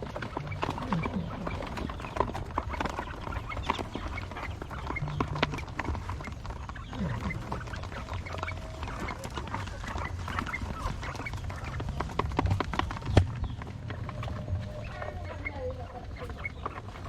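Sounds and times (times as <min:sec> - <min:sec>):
quail pecking taps and clicks: 0:00.0 - 0:17.0
quail peeping: 0:00.0 - 0:17.0.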